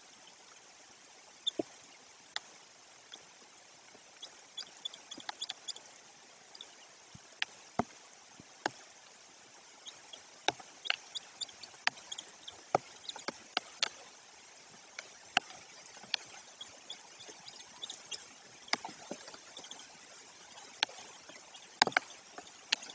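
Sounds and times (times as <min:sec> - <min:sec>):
rain hiss: 0:00.0 - 0:22.9
raindrops ticking near microphone: 0:01.1 - 0:22.9.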